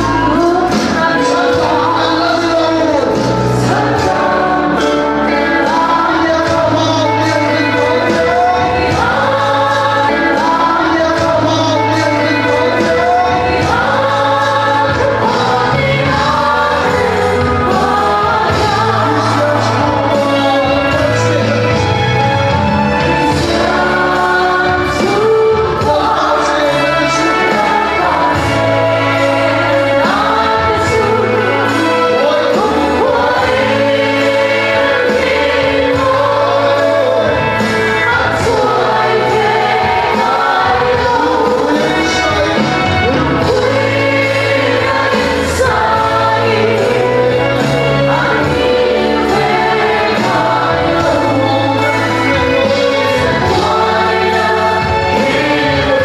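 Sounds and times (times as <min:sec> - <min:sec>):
bass line: 0:00.0 - 0:56.0
congregation singing: 0:00.0 - 0:56.0
live band playing: 0:00.0 - 0:56.0.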